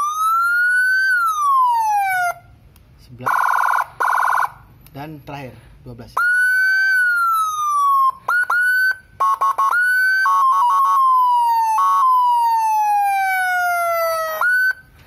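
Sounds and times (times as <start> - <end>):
electronic siren wailing: 0.0 - 2.6, 3.2 - 4.6, 6.2 - 15.0.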